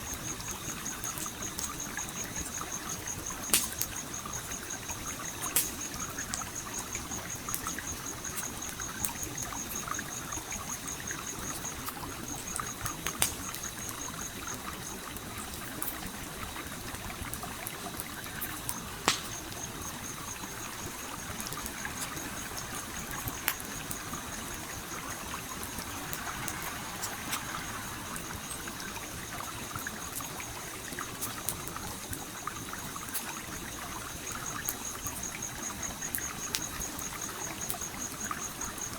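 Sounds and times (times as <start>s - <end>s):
campfire crackling and popping: 0.0s - 38.9s
stream flowing: 0.1s - 38.8s.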